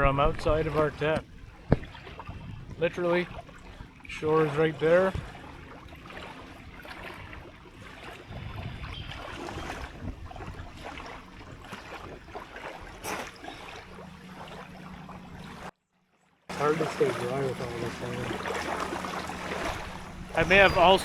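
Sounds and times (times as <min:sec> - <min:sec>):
water and wind: 0:00.0 - 0:21.0
small splashes and ticks: 0:00.2 - 0:15.7, 0:16.5 - 0:21.0.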